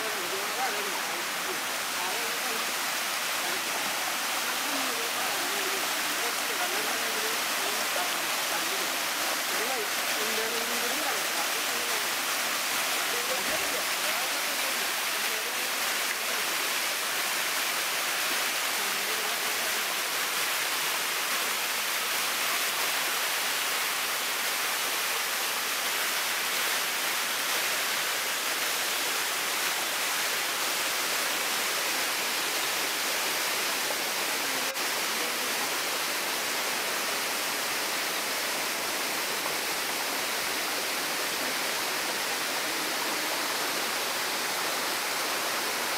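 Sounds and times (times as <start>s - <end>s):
stream rushing over rocks: 0.0s - 45.9s.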